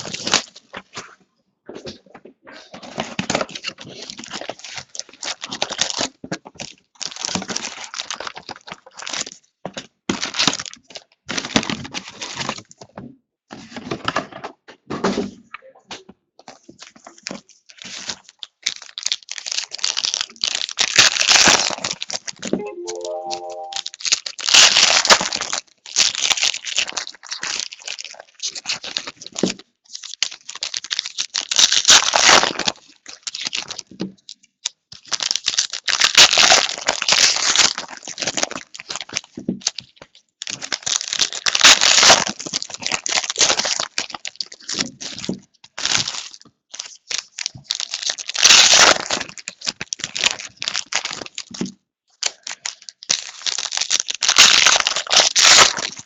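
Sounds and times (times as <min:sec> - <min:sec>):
card pack wrappers tearing and crinkling: 0:00.0 - 0:00.6, 0:02.8 - 0:09.4, 0:10.1 - 0:12.6, 0:16.9 - 0:33.8, 0:34.9 - 0:56.0.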